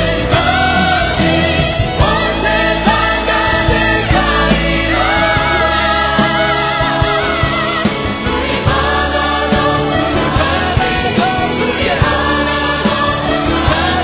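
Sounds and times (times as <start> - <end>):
choir singing worship song: 0.0 - 14.0
instrumental accompaniment: 0.0 - 14.0.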